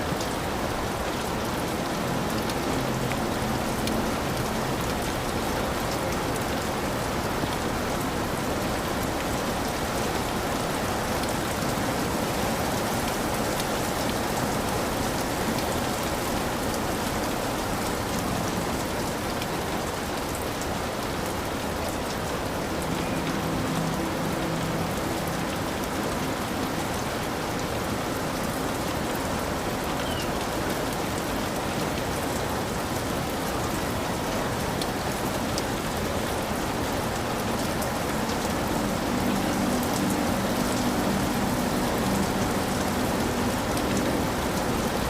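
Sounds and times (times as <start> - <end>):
heavy rain on a roof: 0.0 - 45.0.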